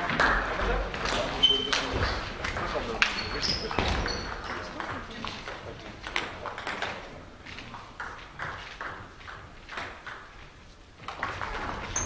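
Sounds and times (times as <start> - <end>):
table tennis balls clicking: 0.1 - 12.0.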